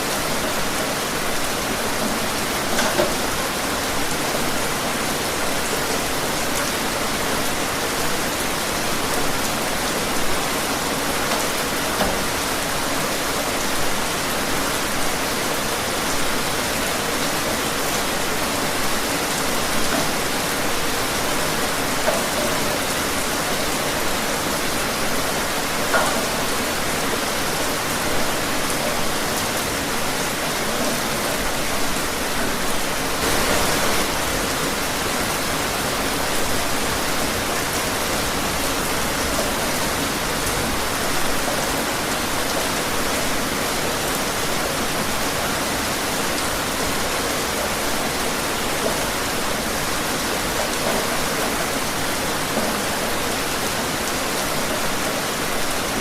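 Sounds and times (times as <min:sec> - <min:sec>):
raindrops ticking on surfaces: 0:00.0 - 0:56.0
steady rain hiss: 0:00.0 - 0:56.0.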